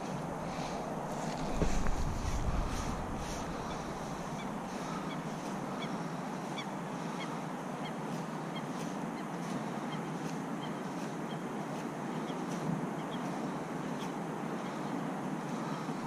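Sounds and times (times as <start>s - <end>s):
outdoor air rush: 0.0s - 16.0s.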